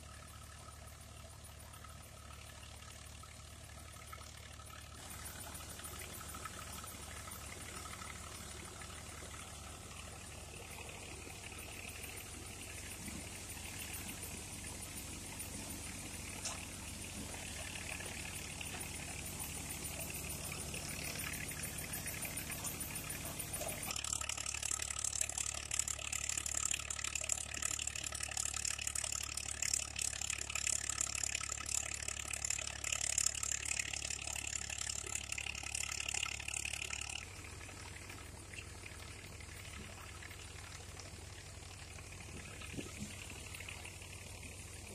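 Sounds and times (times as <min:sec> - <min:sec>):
low engine drone: 0:00.0 - 0:44.9.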